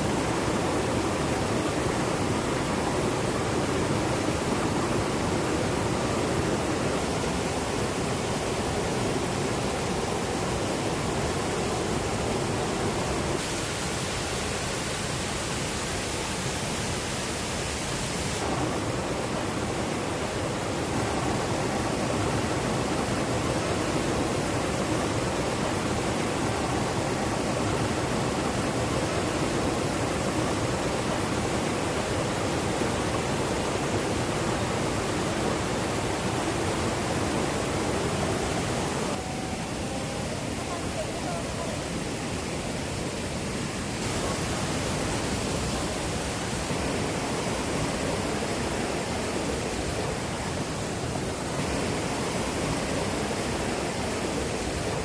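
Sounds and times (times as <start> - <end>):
rushing river water: 0.0 - 55.0.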